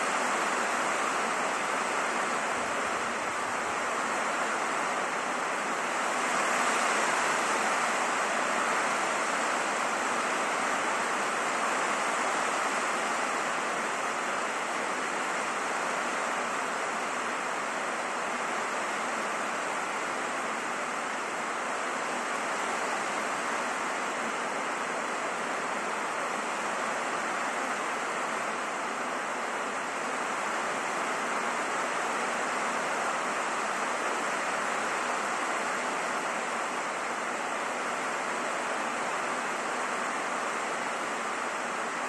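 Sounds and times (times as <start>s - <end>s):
rain on a roof: 0.0s - 42.0s.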